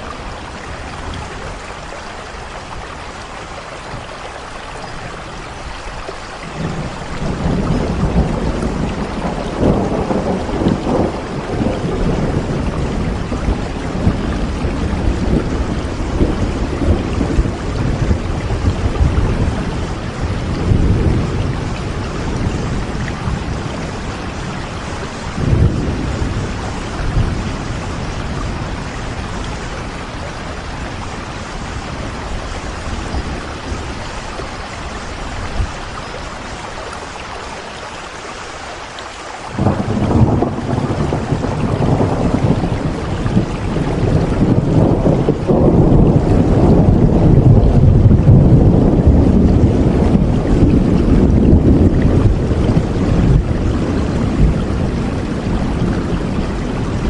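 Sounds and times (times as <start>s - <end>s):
steady rain: 0.0s - 57.0s
thunder rumbling: 6.4s - 36.6s, 39.5s - 57.0s.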